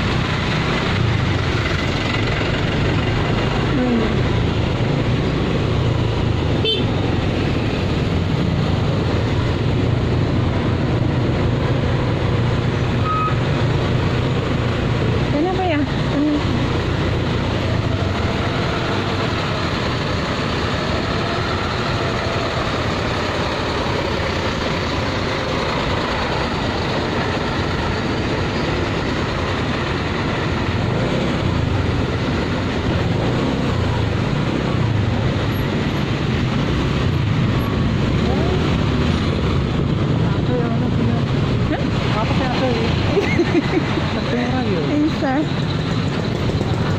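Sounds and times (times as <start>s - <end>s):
motorcycle engine: 0.0s - 46.9s
truck engines: 0.0s - 46.9s.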